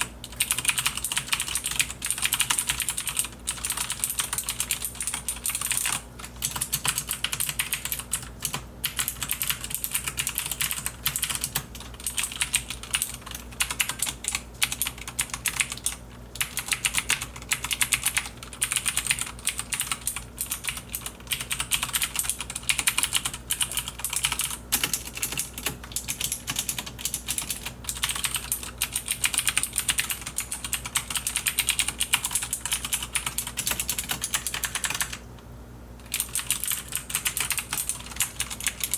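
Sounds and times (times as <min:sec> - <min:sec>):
clicky mechanical keyboard typing: 0:00.0 - 0:35.2, 0:36.0 - 0:38.9.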